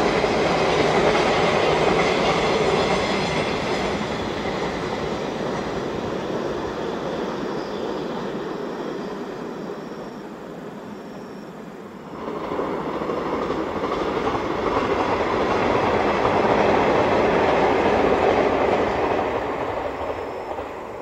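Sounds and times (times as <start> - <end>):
electric train passing on rails: 0.0 - 21.0.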